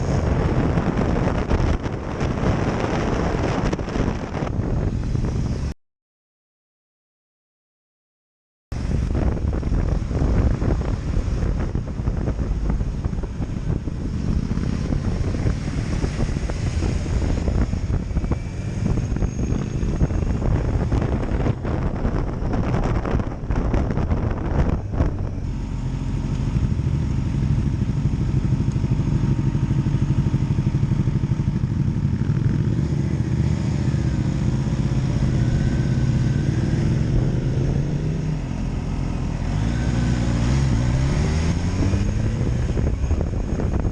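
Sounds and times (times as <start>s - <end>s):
wind noise: 0.0s - 5.8s, 8.7s - 43.9s
motorcycle engine running: 8.8s - 43.9s.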